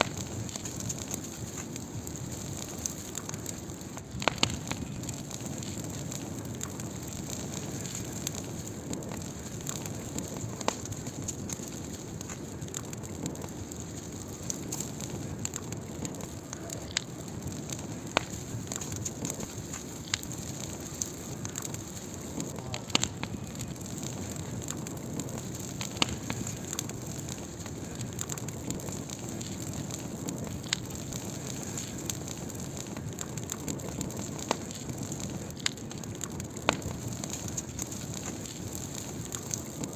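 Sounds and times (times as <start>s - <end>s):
fire crackles and pops: 0.0s - 39.9s
wood fire rushing: 0.0s - 39.9s.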